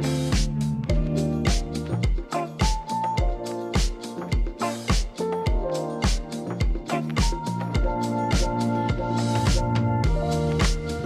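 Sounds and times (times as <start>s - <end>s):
funky guitar music with drums: 0.0s - 11.0s.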